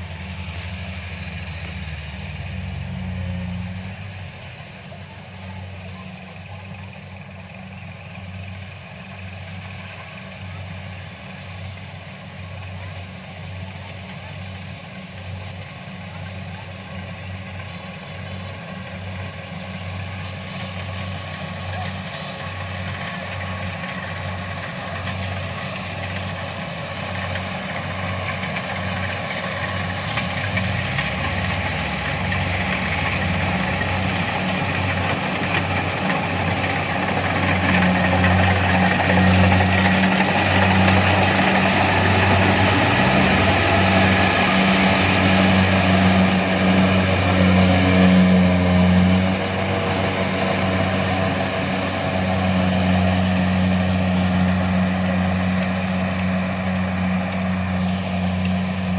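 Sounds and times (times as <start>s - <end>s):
combine harvester diesel engine: 0.0s - 58.9s.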